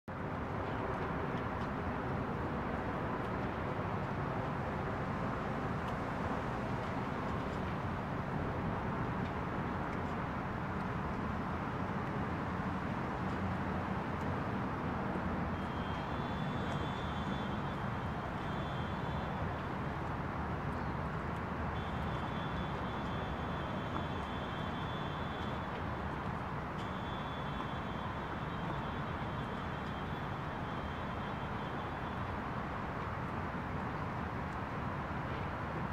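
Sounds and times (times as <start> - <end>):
wind: 0.0 - 35.9.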